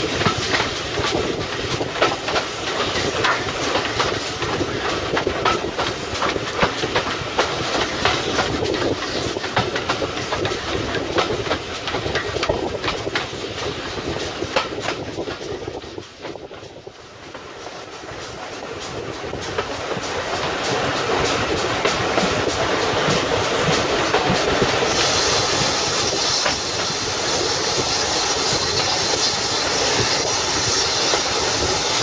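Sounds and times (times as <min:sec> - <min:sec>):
train coaches rumbling: 0:00.0 - 0:32.0.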